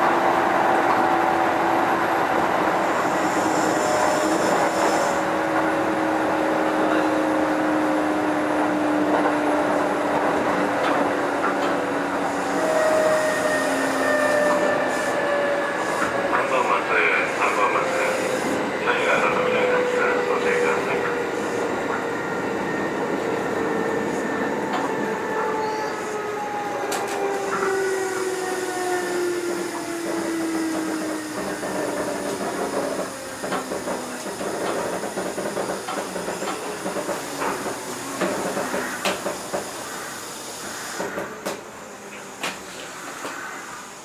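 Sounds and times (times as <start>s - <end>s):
train rattling and knocks: 0.0s - 43.5s
train motor and gear whine: 0.0s - 44.0s.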